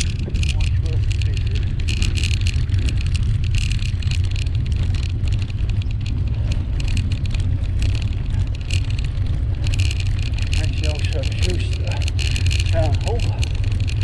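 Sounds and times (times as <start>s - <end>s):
bicycle rattling clicks: 0.0s - 14.0s
wind rumble on microphone: 0.0s - 14.0s.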